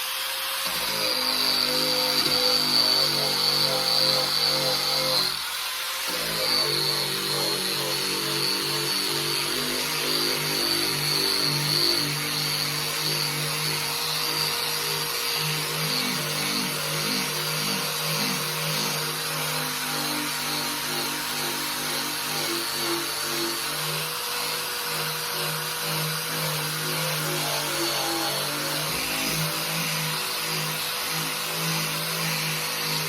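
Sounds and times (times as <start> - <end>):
sanding tool whining on metal: 0.0 - 33.0.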